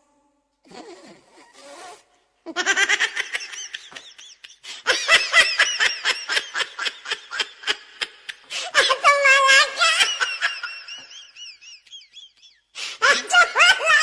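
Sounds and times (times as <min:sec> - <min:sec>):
high-pitched laughter: 0:02.5 - 0:14.0.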